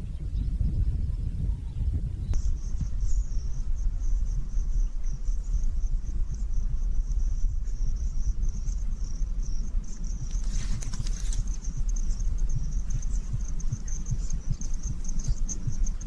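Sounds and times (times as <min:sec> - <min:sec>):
insects trilling: 0:00.0 - 0:16.0
low rumble: 0:00.0 - 0:16.0.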